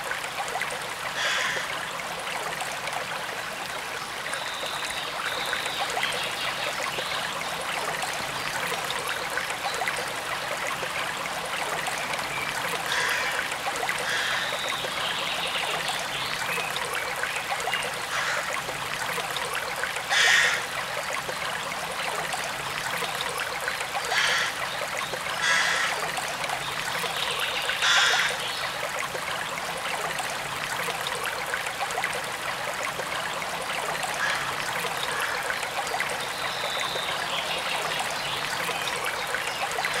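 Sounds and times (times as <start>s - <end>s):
stream trickling: 0.0s - 40.0s.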